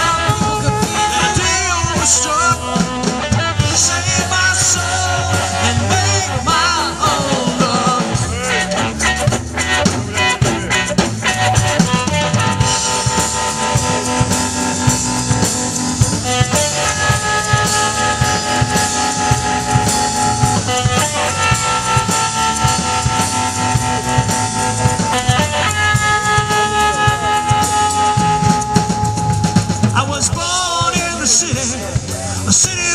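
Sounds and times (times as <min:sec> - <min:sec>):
electric guitar sustained notes: 0:00.0 - 0:30.5
bass guitar: 0:00.0 - 0:32.9
drum kit beat: 0:00.0 - 0:32.9.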